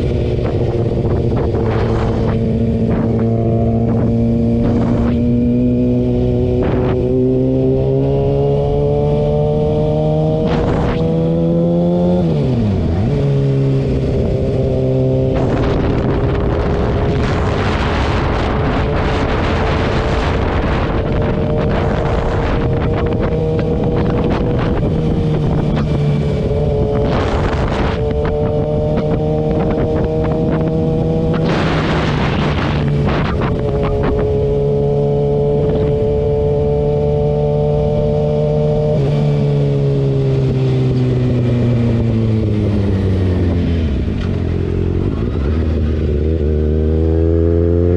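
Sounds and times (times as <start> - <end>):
motorcycle engine revving: 0.0 - 47.9
wind rush on microphone: 0.0 - 47.9.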